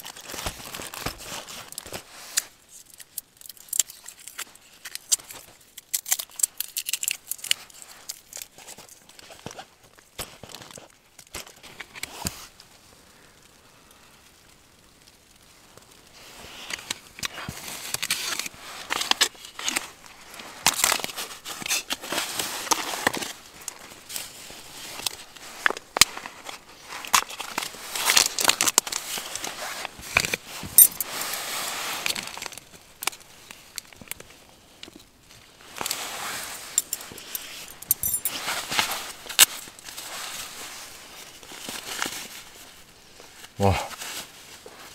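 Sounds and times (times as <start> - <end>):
packaging and nylon rustling: 0.0 - 13.0, 15.6 - 44.9.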